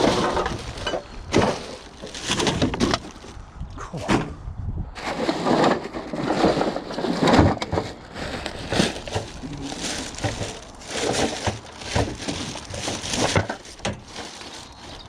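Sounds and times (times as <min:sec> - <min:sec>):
rubbish rummaging and clattering: 0:00.0 - 0:03.4, 0:05.0 - 0:15.0.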